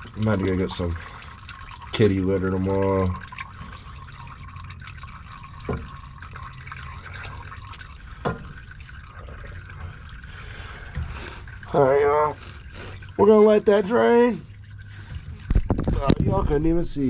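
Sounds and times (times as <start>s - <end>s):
oil plops: 0.0s - 16.2s
oil trickling into a pan: 0.0s - 16.2s.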